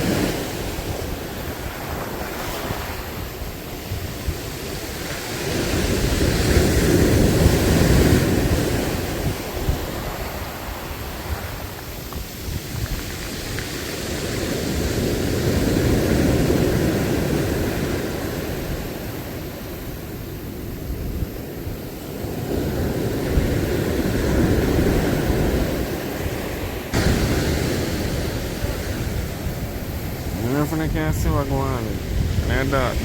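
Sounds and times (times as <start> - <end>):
sea surf: 0.0 - 33.0
wind rushing: 0.0 - 33.0.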